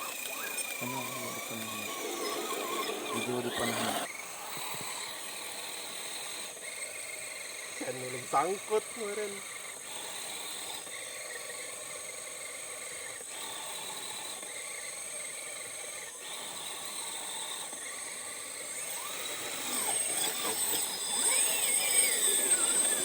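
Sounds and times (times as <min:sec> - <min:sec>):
steady high-pitched buzz: 0:00.0 - 0:14.4, 0:16.1 - 0:23.0
small electric motor whining: 0:00.0 - 0:23.0.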